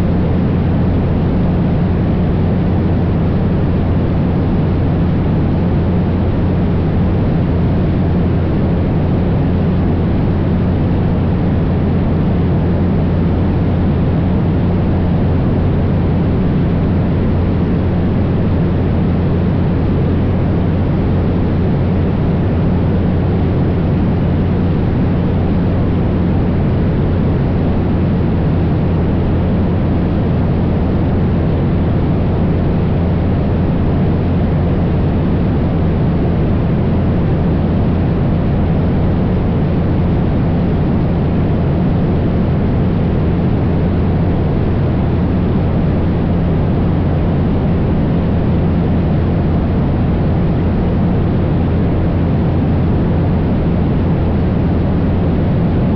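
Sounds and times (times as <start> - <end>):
propeller plane engine drone: 0.0 - 55.9.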